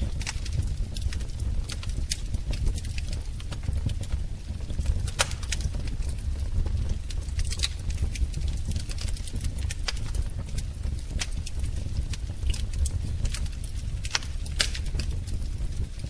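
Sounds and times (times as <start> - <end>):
fire pops and snaps: 0.0 - 16.0
low rumble of flames: 0.0 - 16.0.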